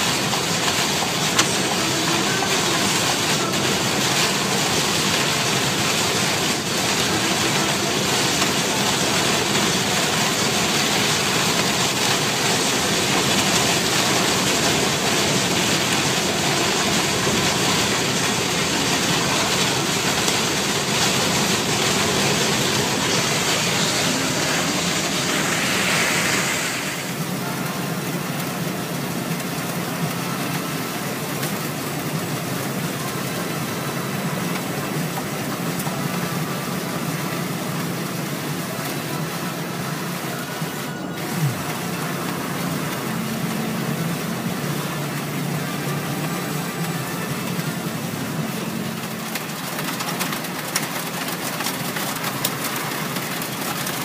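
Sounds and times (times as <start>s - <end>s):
heavy rain hissing on a car: 0.0s - 54.0s.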